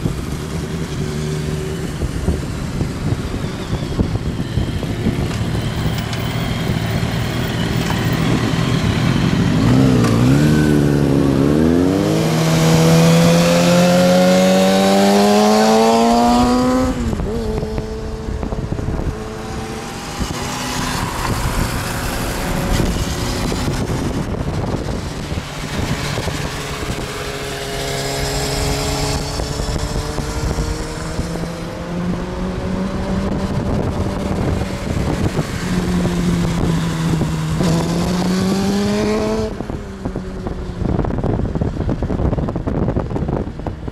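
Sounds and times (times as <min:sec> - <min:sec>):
motorcycle engines revving: 0:00.0 - 0:43.9
road noise: 0:00.0 - 0:43.9.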